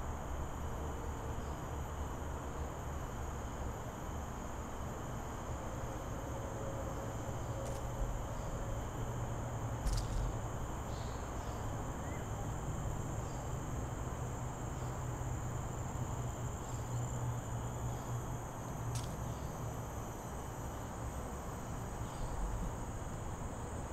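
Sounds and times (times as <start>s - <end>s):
high-pitched insect chorus: 0.1s - 23.9s.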